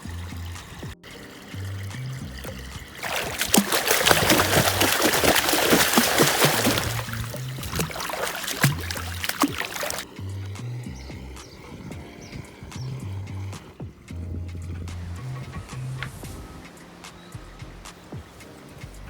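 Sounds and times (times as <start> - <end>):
soft background music with bass: 0.0 - 19.0
water splashing and trickling: 0.0 - 19.0.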